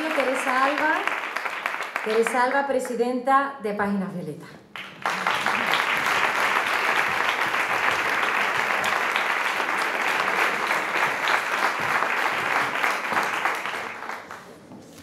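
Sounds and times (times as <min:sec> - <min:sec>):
audience applauding: 0:00.0 - 0:02.5, 0:04.8 - 0:14.7.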